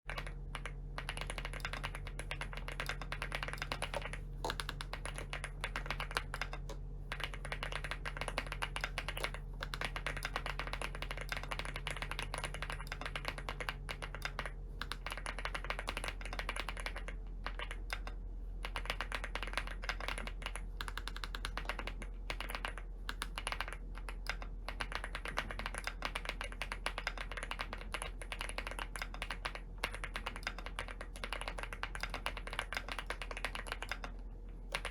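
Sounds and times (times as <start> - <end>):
mechanical keyboard typing: 0.1 - 34.9.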